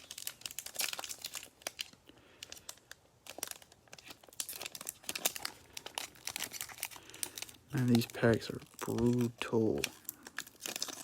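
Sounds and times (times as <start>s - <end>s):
wrapper tearing and crinkling: 0.0s - 11.0s.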